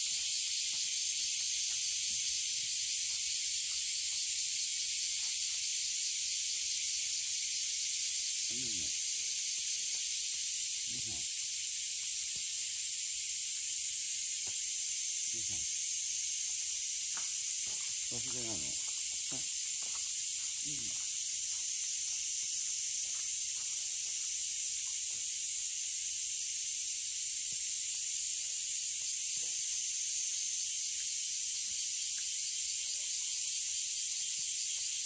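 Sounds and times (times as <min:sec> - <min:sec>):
cicadas chorus: 0:00.0 - 0:35.0.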